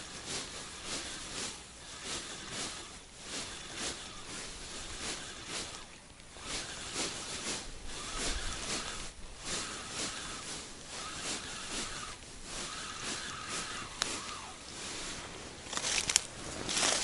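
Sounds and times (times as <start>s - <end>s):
fishing reel whine: 0.0s - 17.0s
rustling and swishing: 0.0s - 17.0s.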